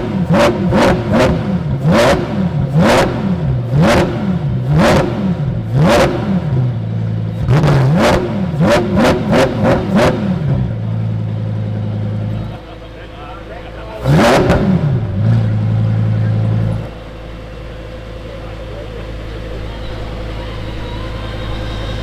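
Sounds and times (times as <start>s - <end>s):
car engine revving blips: 0.0s - 22.0s
engine idling: 0.0s - 22.0s
exhaust crack: 0.0s - 22.0s.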